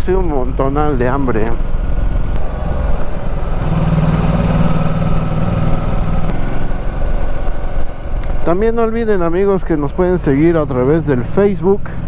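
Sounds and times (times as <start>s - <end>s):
low wind rumble: 0.0s - 12.0s
motorcycle engine running: 0.0s - 12.0s.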